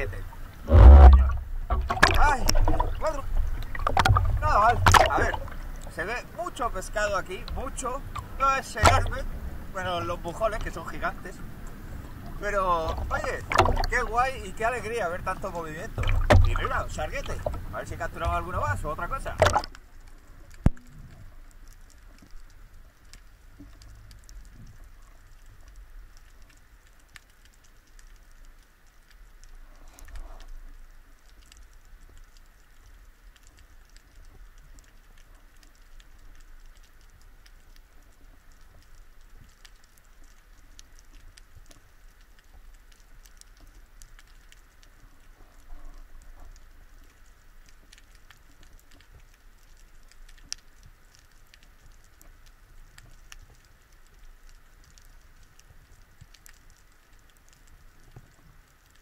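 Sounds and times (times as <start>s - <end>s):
faint underwater clicking crackle: 0.0s - 59.0s
low water rumble: 0.0s - 59.0s.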